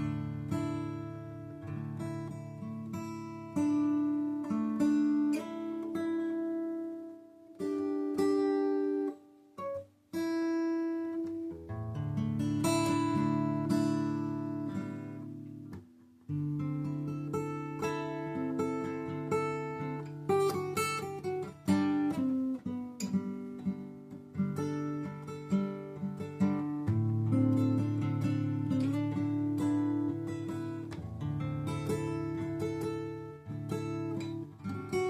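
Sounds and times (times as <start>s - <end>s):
acoustic guitar: 0.0s - 35.0s.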